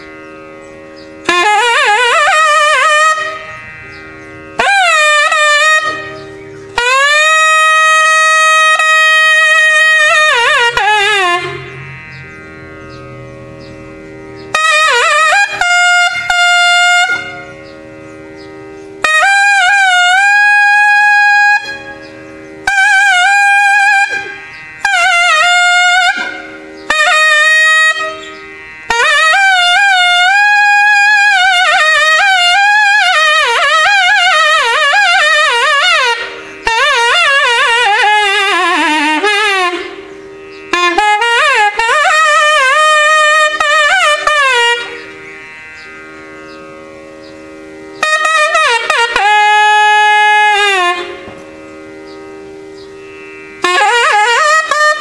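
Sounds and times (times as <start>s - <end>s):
double-reed horn melody: 0.0s - 55.0s
steady drone: 0.0s - 55.0s.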